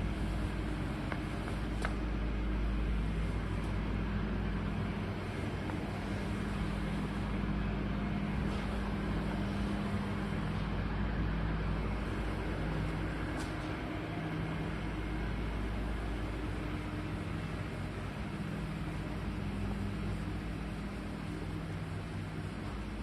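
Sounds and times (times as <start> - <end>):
freezer compressor humming: 0.0 - 23.0.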